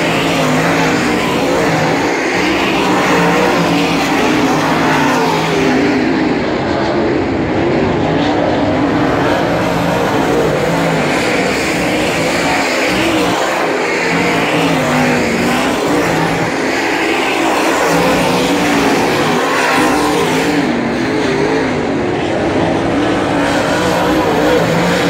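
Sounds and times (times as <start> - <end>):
race car engines roaring: 0.0 - 25.0.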